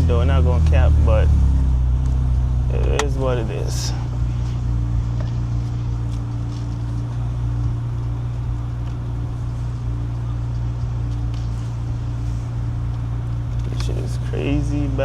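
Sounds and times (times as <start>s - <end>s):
car engine running low drone: 0.0s - 15.0s.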